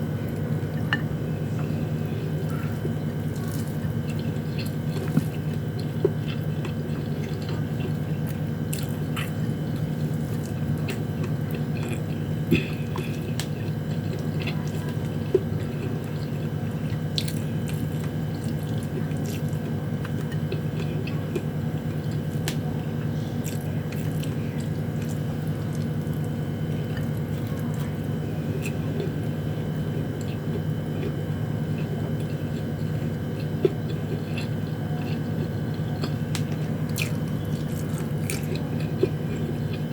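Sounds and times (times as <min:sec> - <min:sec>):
steady background hum: 0:00.0 - 0:39.9
close-up chewing and mouth sounds: 0:00.2 - 0:39.9.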